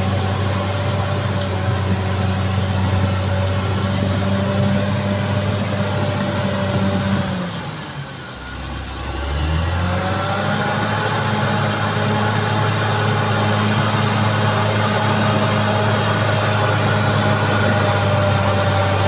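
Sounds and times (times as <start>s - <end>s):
bulldozer diesel engine: 0.0s - 19.0s.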